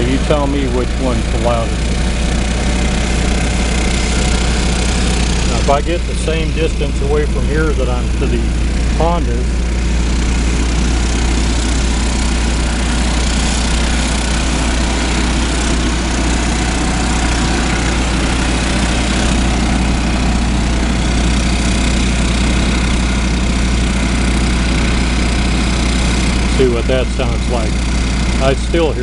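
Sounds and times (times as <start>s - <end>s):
distant generator humming: 0.0s - 29.0s
inverter generators running: 0.0s - 29.0s.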